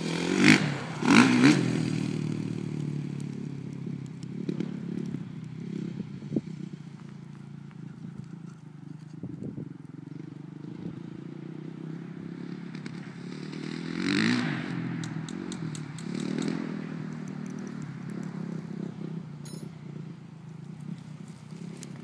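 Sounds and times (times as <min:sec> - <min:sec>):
motocross bike engine running: 0:00.0 - 0:22.0.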